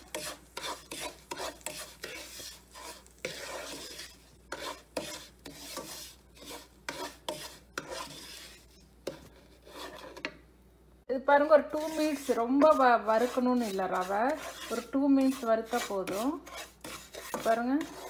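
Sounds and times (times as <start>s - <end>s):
wooden spatula scraping pan: 0.0s - 10.4s, 11.4s - 18.0s.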